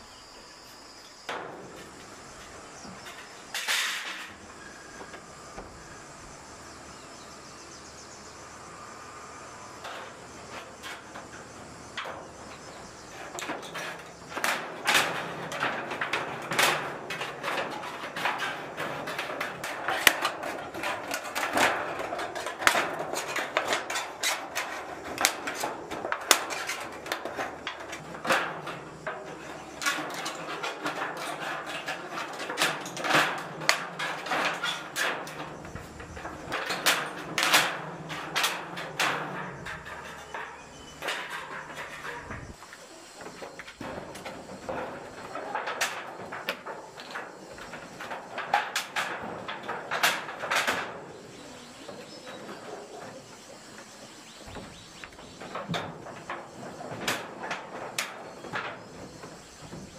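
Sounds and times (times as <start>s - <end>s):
knocks on metal roofing sheets: 9.8s - 59.9s.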